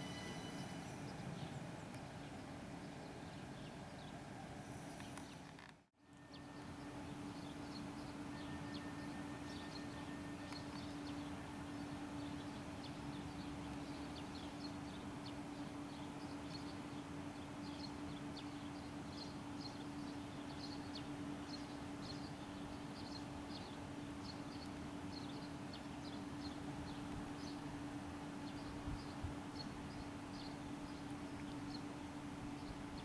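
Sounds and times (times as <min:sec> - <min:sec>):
electric train humming: 0:00.0 - 0:05.4, 0:06.0 - 0:33.0
small birds chirping: 0:06.3 - 0:33.0.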